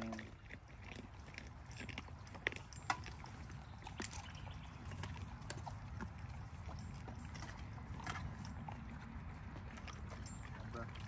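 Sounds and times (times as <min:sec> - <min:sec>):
dogs crunching bones: 0:00.0 - 0:11.0.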